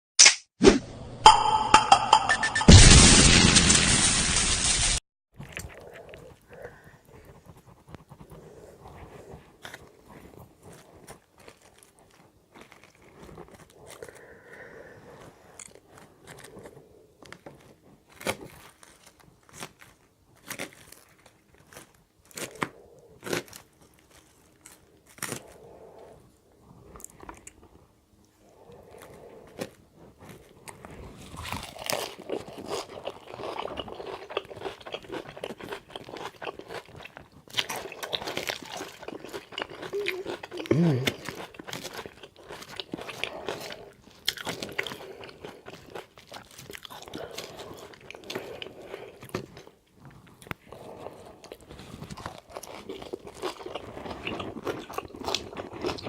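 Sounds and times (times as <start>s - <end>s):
crunching and open-mouth chewing: 5.4s - 56.0s.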